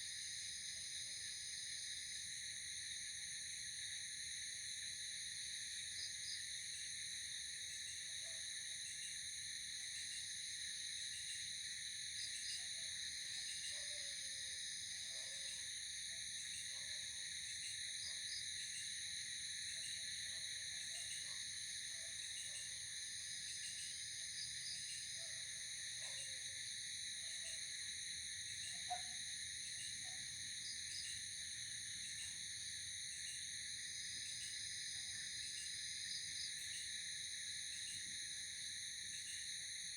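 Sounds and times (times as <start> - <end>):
insect chirps: 0.1 - 39.9.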